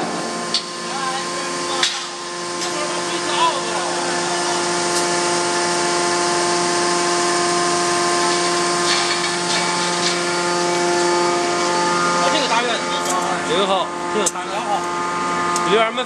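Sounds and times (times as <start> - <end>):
forging machinery hum: 0.0 - 16.0.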